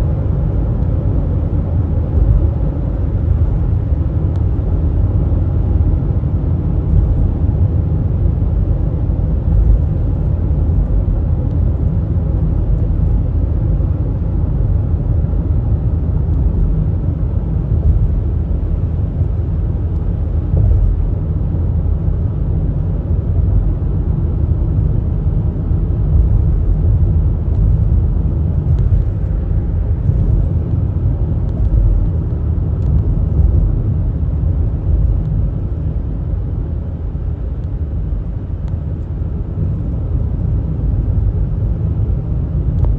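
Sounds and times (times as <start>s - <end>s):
low rumble of moving vehicle: 0.0s - 42.9s.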